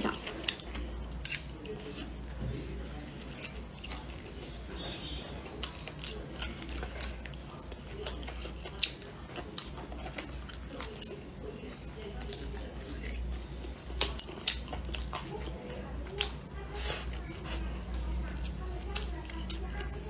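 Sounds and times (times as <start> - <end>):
person chewing meat: 0.0 - 20.0.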